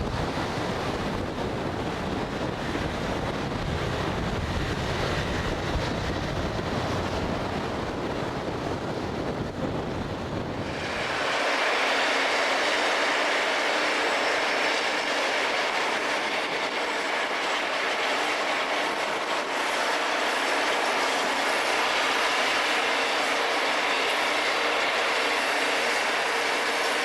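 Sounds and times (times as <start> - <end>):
rail grinding wheels grinding: 0.0 - 27.0.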